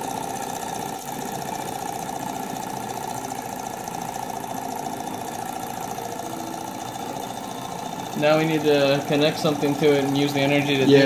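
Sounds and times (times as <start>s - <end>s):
model engine running fast: 0.0s - 11.0s.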